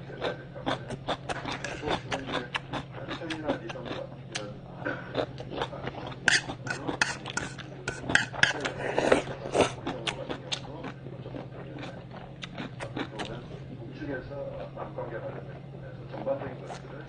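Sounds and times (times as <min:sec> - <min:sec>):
slurping and chewing: 0:00.2 - 0:13.8, 0:14.5 - 0:17.0.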